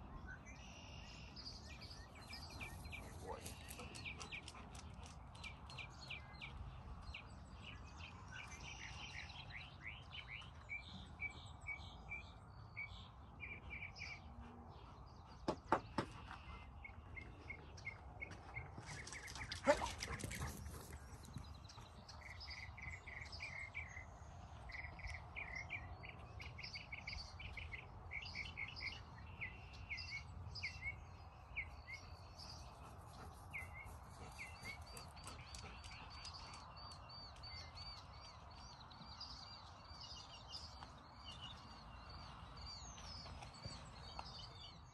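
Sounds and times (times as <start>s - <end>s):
birds chirping and singing: 0.0s - 44.9s.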